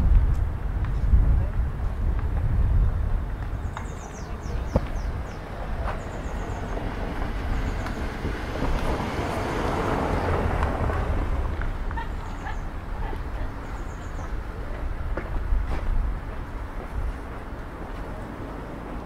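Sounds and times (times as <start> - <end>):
street rumble: 0.0 - 19.0.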